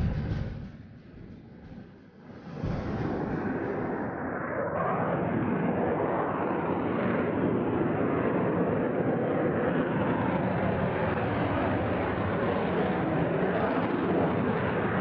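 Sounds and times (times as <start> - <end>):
fighter jet engines in flight: 0.8 - 15.0.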